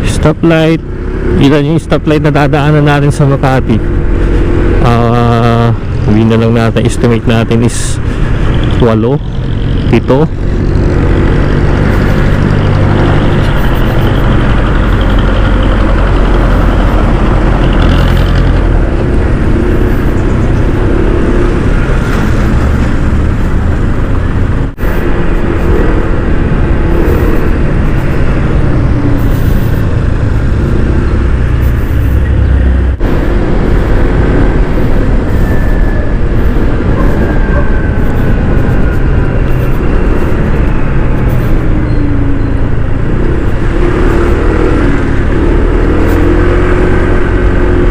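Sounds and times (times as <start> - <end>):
other vehicles in traffic: 0.0 - 47.9
wind and road noise: 0.0 - 47.9
scooter engine: 7.8 - 47.9.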